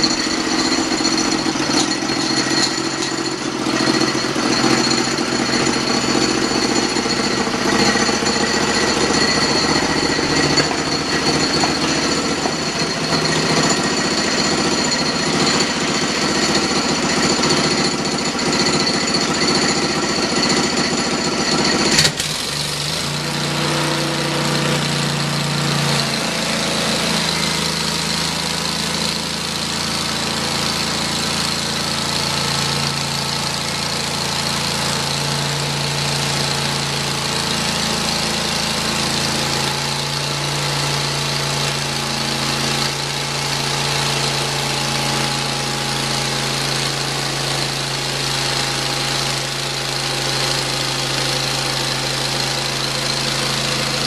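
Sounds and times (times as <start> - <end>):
bandsaw mill engine running: 0.0 - 54.0
engine idling: 0.0 - 54.0.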